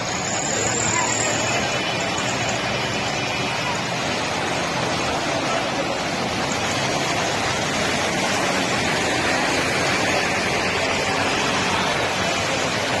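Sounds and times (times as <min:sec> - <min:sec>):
traffic rushing: 0:00.0 - 0:13.0
water rushing on flooded street: 0:00.0 - 0:13.0.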